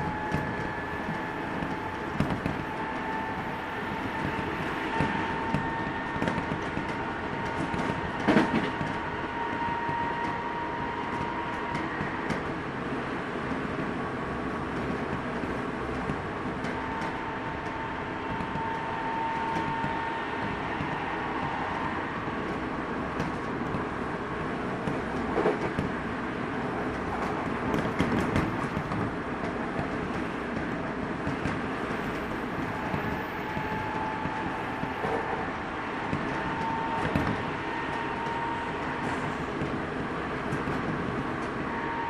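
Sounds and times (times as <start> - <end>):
wheel and rail rumble: 0.0 - 42.0.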